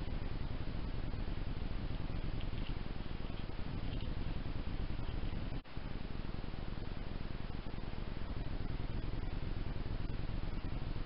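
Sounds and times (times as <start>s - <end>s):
low hiss and rumble: 0.0s - 11.0s.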